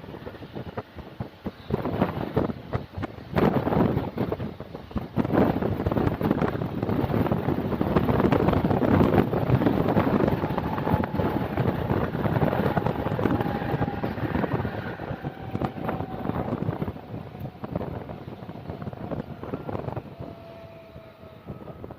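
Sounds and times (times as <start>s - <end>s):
train wheels rumbling on rails: 0.0s - 21.9s
wind on microphone: 0.0s - 21.9s.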